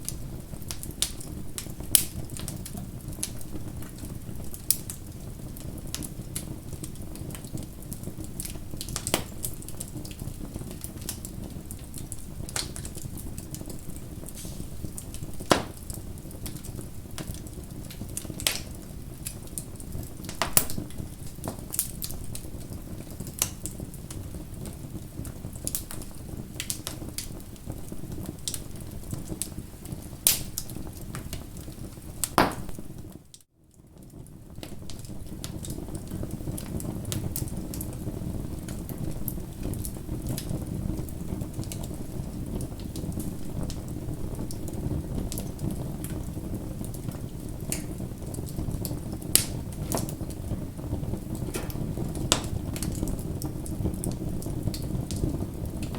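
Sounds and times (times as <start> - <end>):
bonfire crackling: 0.0 - 55.9.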